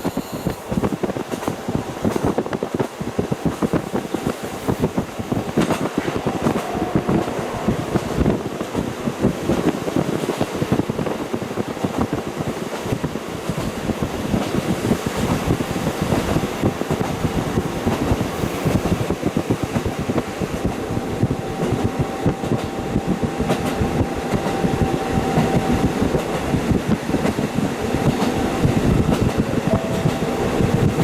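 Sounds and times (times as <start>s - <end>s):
train running on rails: 0.0s - 31.0s.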